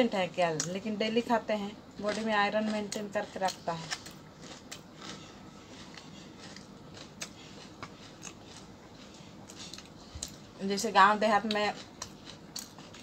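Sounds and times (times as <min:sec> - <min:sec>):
small eating clicks: 0:00.1 - 0:13.0
people chewing food: 0:01.6 - 0:13.0.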